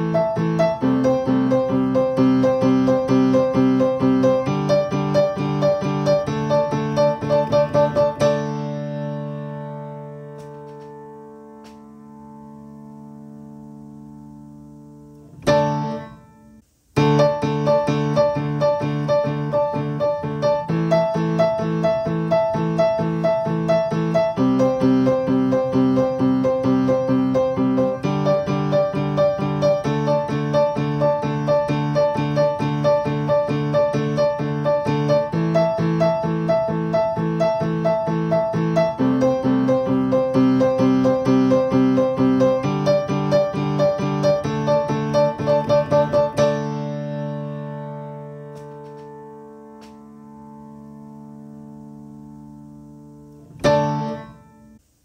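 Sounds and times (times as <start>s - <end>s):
piano keyboard music: 0.0s - 55.0s.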